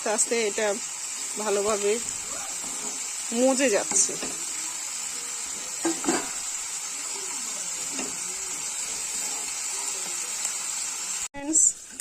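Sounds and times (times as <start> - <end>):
leaves sizzling in hot oil: 0.0 - 12.0.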